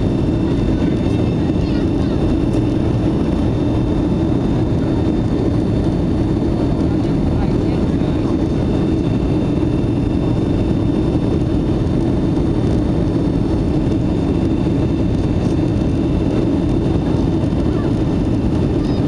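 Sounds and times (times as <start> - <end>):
jet engine rumble in cabin: 0.0 - 19.0.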